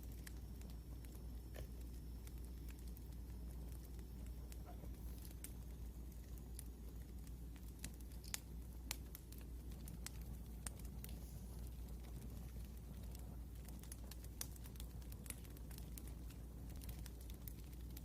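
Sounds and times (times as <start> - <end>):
low rumble of fire: 0.0 - 18.0
wood fire crackling: 0.0 - 18.0.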